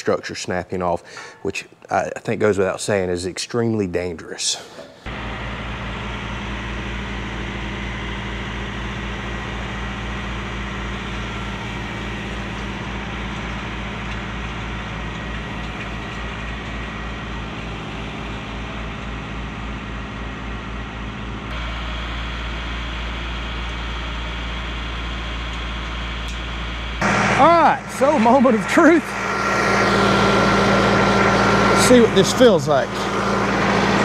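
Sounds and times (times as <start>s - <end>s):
tractor diesel engine idling: 5.0s - 34.0s.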